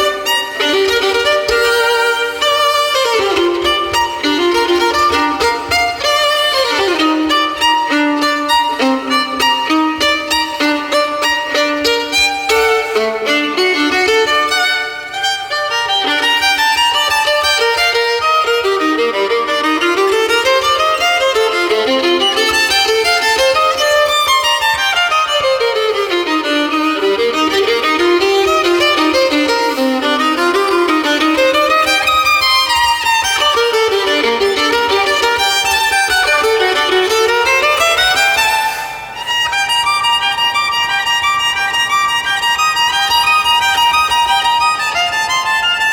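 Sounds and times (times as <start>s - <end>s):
solo violin rapid runs: 0.0s - 45.9s.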